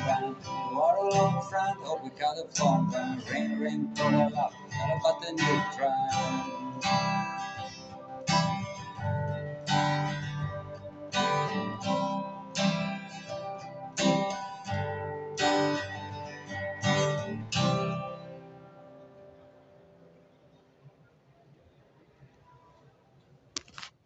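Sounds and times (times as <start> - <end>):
strummed guitar chords: 0.0 - 20.6.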